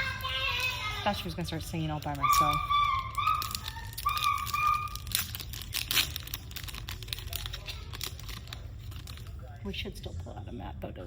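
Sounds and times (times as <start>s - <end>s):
foil pack tearing and crinkling: 0.0s - 9.6s.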